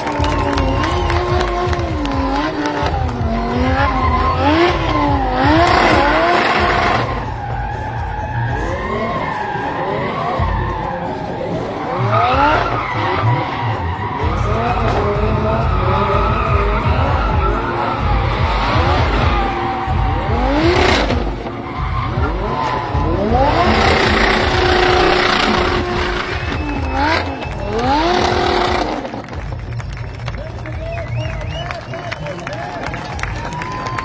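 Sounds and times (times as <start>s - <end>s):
car engine revving: 0.0s - 31.6s
tyres skidding and squealing: 0.0s - 34.0s.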